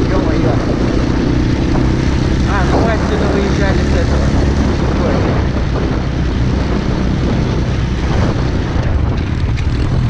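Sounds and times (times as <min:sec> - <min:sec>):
pit bike engine running: 0:00.0 - 0:10.0.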